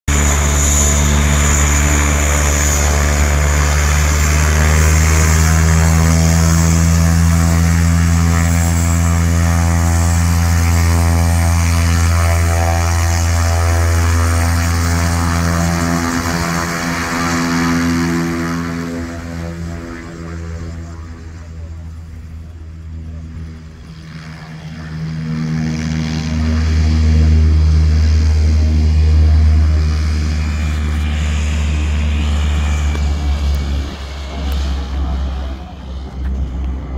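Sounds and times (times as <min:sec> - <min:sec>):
turboprop propeller drone: 0:00.0 - 0:36.9
high turbine whine: 0:00.1 - 0:36.9.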